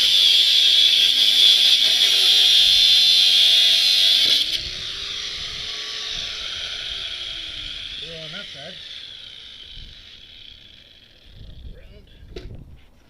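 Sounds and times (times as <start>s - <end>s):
power tool cutting steel: 0.0s - 11.8s.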